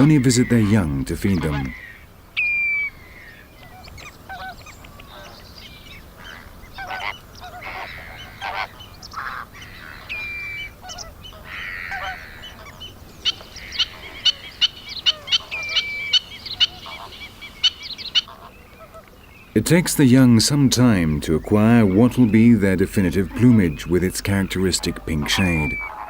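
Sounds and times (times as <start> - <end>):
flamingos honking: 0.0 - 26.0
short sharp bird calls: 0.0 - 26.0.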